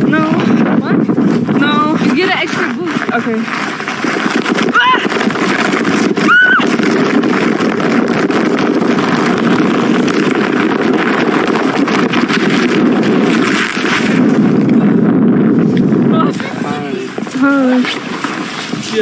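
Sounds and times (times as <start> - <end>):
sled scraping over icy snow: 0.0 - 19.0.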